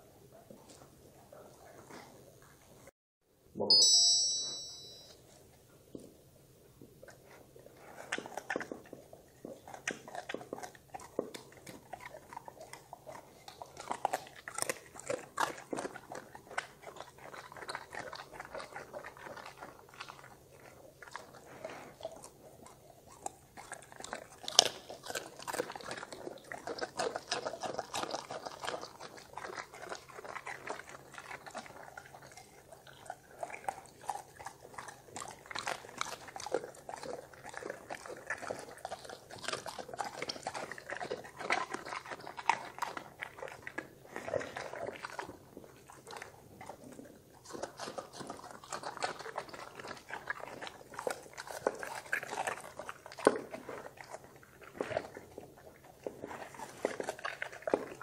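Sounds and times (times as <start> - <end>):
dogs crunching broccoli: 0.0 - 2.9, 5.2 - 58.0.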